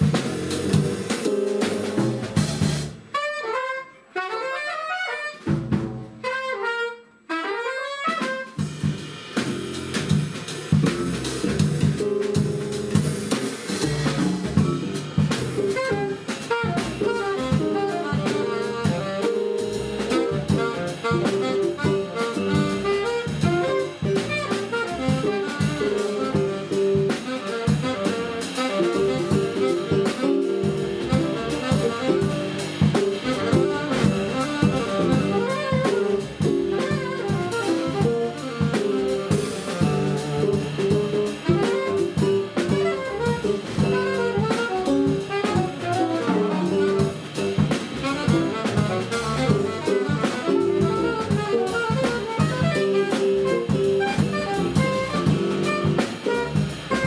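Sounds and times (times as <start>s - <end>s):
jazz band playing: 0.0s - 57.0s.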